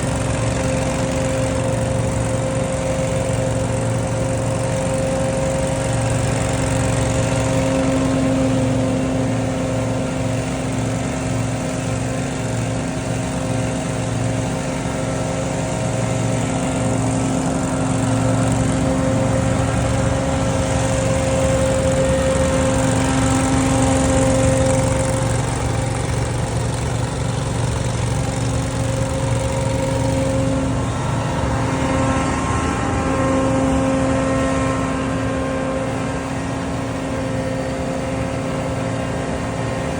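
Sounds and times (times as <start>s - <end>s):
debris blower running: 0.0s - 39.9s.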